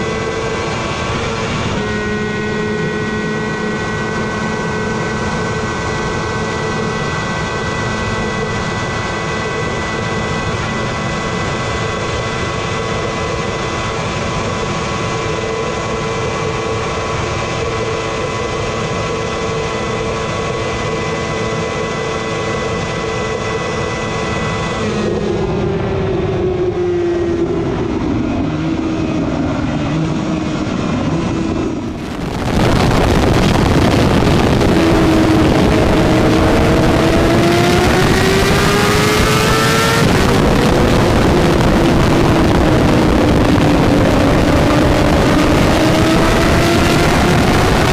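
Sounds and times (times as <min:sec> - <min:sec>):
motorcycle engine at high revs: 0:00.0 - 0:47.9
steady rush of noise: 0:00.0 - 0:47.9.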